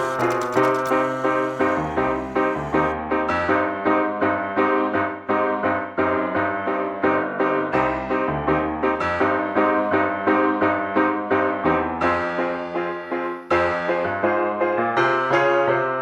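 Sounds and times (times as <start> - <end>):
piano playing: 0.0 - 16.0.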